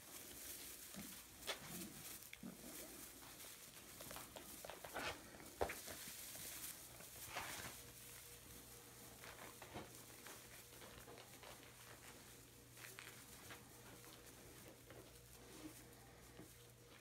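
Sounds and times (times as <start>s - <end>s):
low steady hum: 0.0s - 17.0s
straw rustling under paws: 0.0s - 17.0s.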